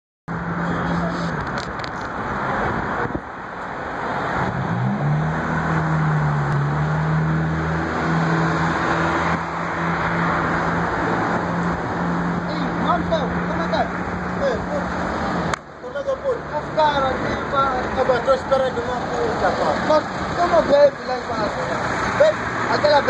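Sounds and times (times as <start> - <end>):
cars passing: 0.3 - 23.0
engine hum: 0.3 - 23.0.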